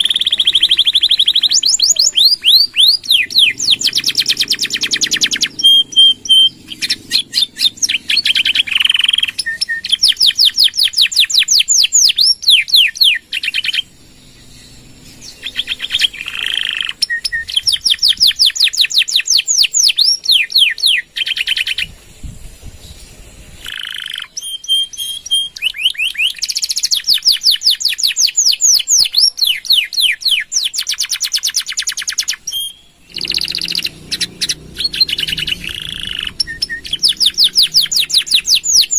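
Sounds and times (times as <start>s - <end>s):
canary singing trills: 0.0s - 21.9s, 22.8s - 38.9s.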